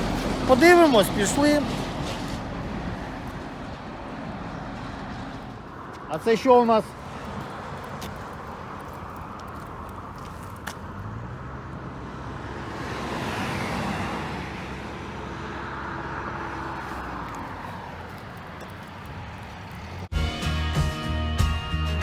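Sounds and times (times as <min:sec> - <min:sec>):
motor vehicles passing by: 0:00.0 - 0:20.1.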